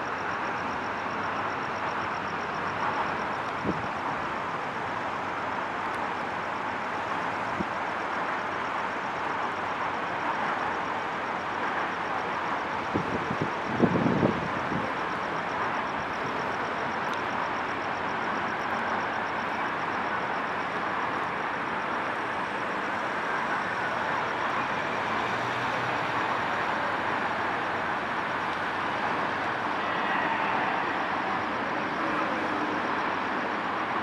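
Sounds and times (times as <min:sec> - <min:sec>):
ferry engine rumble: 0:00.0 - 0:34.0
rushing water: 0:00.0 - 0:34.0.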